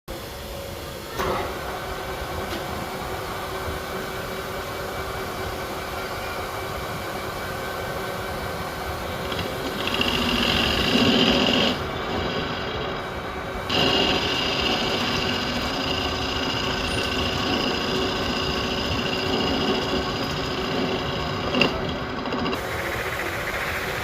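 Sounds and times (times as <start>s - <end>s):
small machine running: 1.4s - 24.0s.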